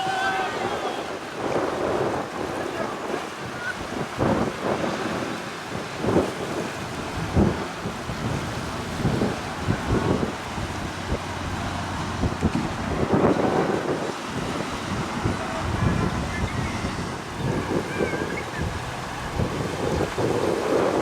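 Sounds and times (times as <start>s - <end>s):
waves rushing: 0.0s - 21.0s
wind buffeting microphone: 0.0s - 21.0s.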